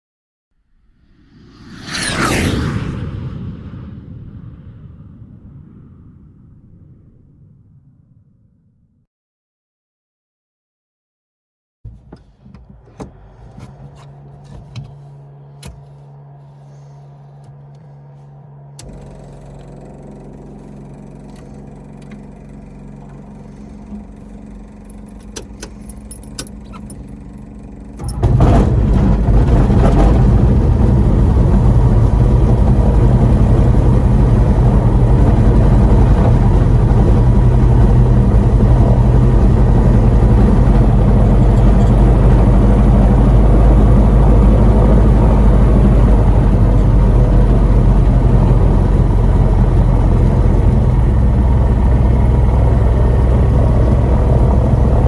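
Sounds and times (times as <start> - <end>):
aircraft engine starting and running: 0.8 - 8.4, 12.4 - 55.0.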